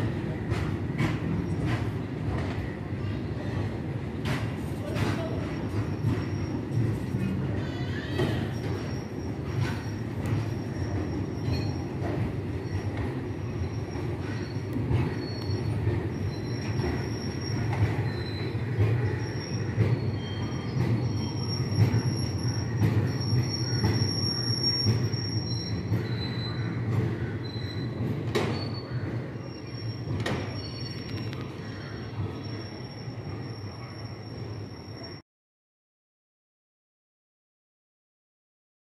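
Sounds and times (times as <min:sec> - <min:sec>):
rumble of wagons on rails: 0:00.0 - 0:35.2
wheels squealing on rails: 0:00.0 - 0:35.2.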